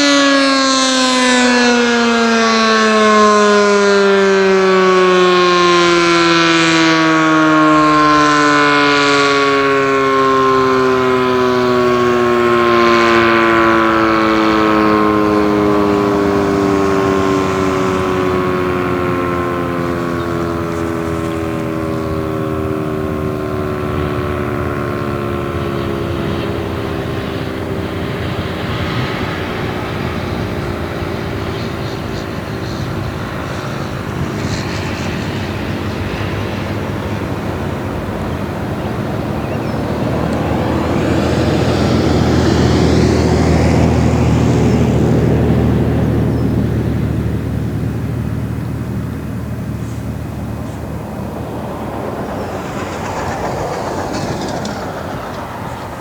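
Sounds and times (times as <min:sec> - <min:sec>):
warning siren winding down: 0:00.0 - 0:56.0.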